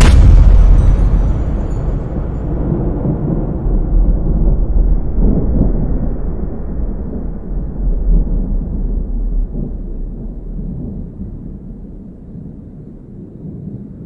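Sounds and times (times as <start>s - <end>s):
deep noisy rumble: 0.0s - 14.0s.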